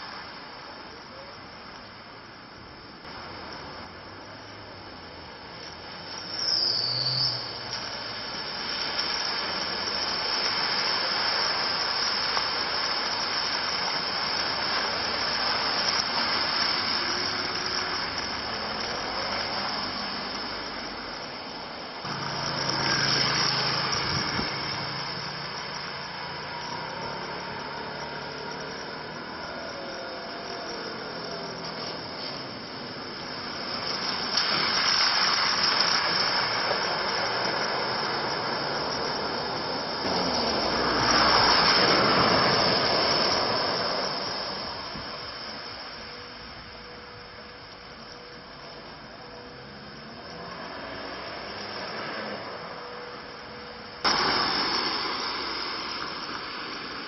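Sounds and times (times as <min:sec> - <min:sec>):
car engine noise: 0:00.0 - 0:57.0
tyres splashing through water: 0:04.8 - 0:46.6, 0:50.3 - 0:57.0.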